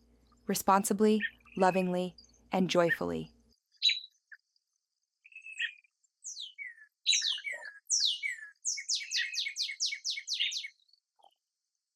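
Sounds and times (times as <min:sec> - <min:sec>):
songbird singing: 0:00.2 - 0:11.5.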